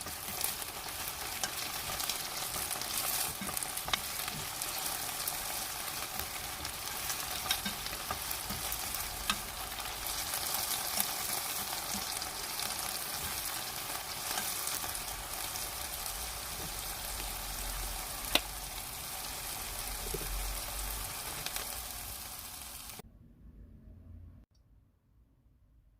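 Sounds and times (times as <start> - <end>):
food sizzling in a pan: 0.0 - 23.0.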